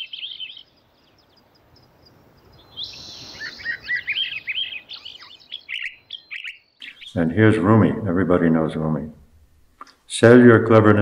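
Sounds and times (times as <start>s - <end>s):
songbird chirping and warbling: 0.0s - 9.0s.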